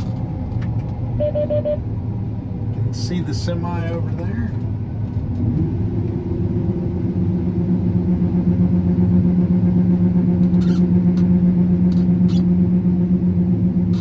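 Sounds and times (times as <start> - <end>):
combine harvester engine droning: 0.0 - 14.0.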